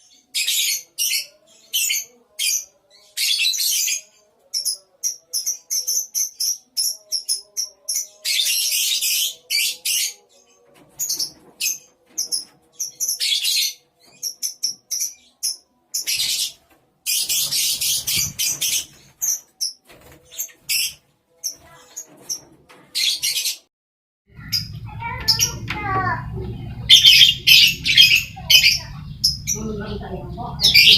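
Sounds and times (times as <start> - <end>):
lovebirds calling shrilly: 0.0 - 23.6, 24.4 - 30.9.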